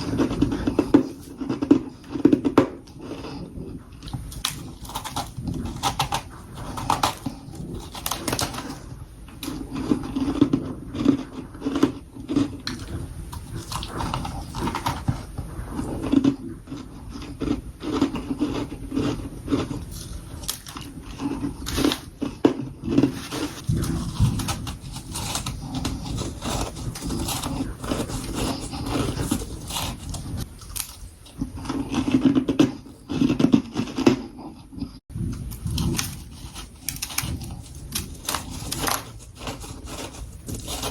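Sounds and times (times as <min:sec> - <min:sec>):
person crunching frost: 0:00.0 - 0:34.6, 0:35.3 - 0:40.9.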